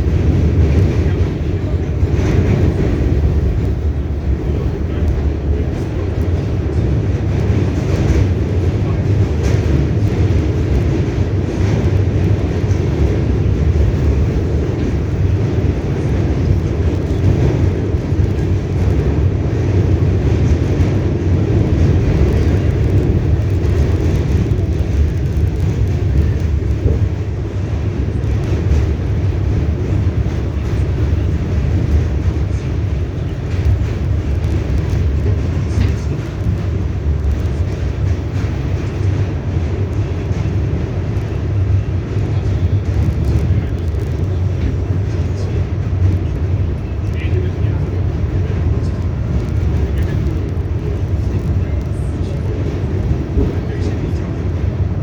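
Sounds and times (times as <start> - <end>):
faint rail clicks: 0.0 - 55.0
subway train wheels rumbling: 0.0 - 55.0.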